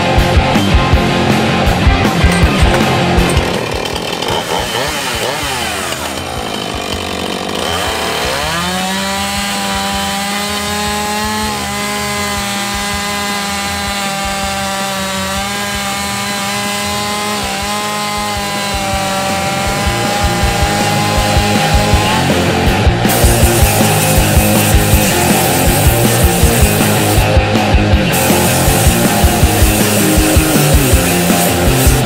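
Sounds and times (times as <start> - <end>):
chainsaw cutting wood: 1.2 - 32.0.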